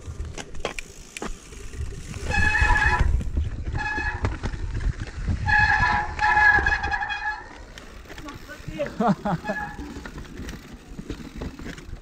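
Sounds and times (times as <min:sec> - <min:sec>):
bike tyres rumbling on dirt: 0:00.0 - 0:12.0
high-pitched bike whine: 0:00.0 - 0:12.0.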